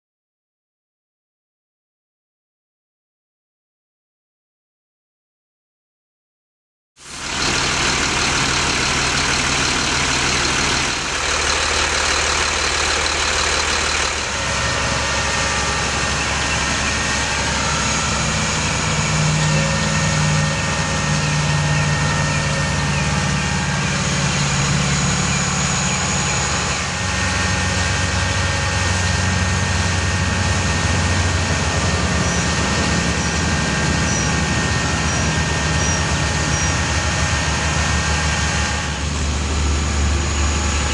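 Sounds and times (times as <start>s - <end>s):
truck engine running: 7.0s - 40.9s
hydraulic boom humming: 7.1s - 40.9s.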